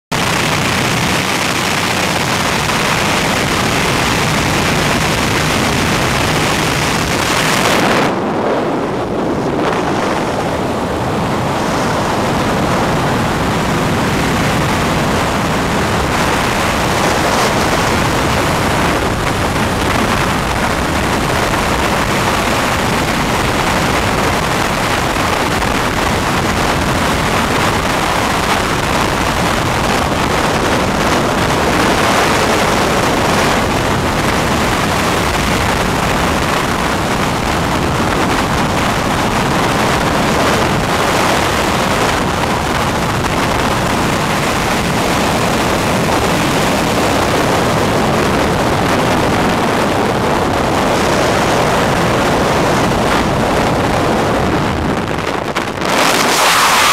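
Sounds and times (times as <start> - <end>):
plane engine: 0.0 - 56.9
wind rushing on microphone: 0.0 - 56.9.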